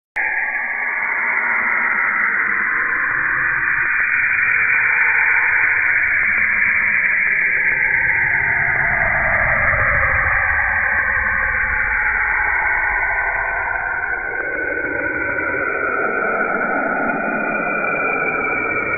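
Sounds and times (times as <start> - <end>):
gliding hazy tones: 0.2 - 18.9.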